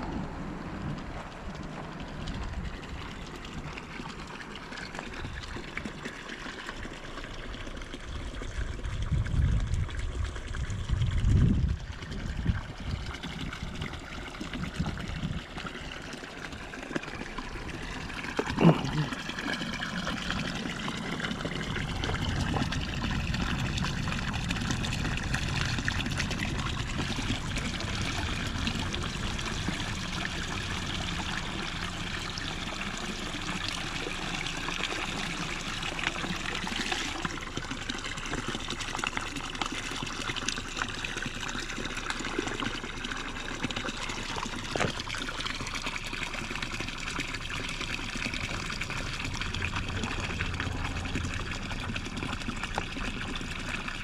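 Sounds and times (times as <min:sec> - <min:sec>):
plastic bottle filling with water: 0:00.0 - 0:54.0
water pouring into a pool: 0:00.0 - 0:54.0.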